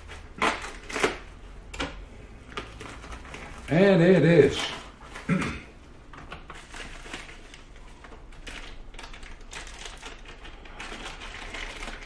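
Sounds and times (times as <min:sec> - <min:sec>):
packaging crinkling and rustling: 0:00.0 - 0:05.4, 0:06.0 - 0:12.0.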